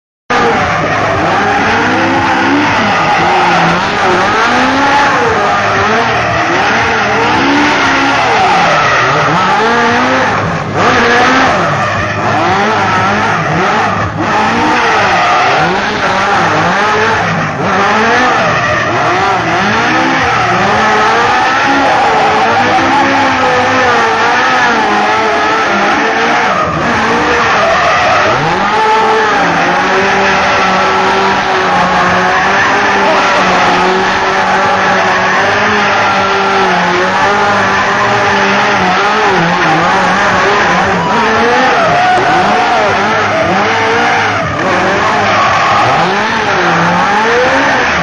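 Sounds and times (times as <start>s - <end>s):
car engine revving: 0.3s - 48.0s
tyre squeal: 0.3s - 48.0s.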